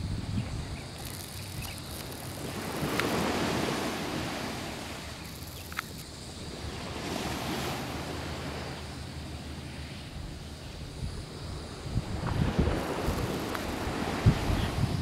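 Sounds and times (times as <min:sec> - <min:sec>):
wind buffeting microphone: 0:00.0 - 0:08.8, 0:10.1 - 0:15.0
small waves washing on beach: 0:00.8 - 0:15.0.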